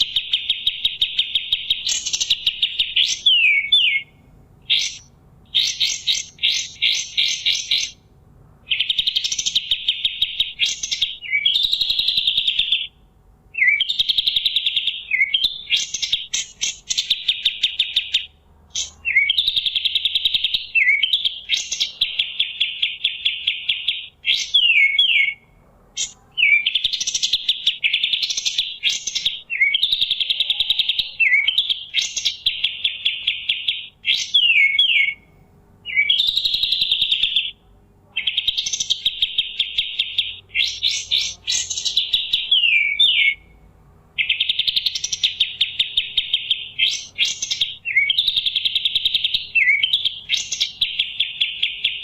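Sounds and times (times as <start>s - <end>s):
bird singing buzzy trills: 0.0s - 52.0s.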